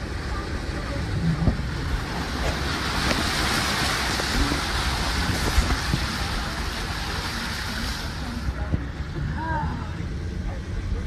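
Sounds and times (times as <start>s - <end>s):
car rumble: 0.0s - 11.0s
tyres rushing through water: 0.0s - 11.0s.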